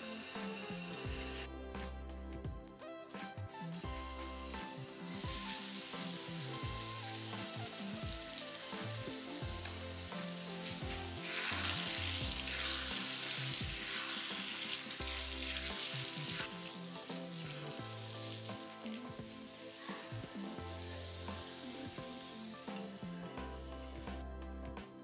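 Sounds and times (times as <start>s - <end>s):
food sizzling in a pan: 0.0s - 1.5s, 4.0s - 24.2s.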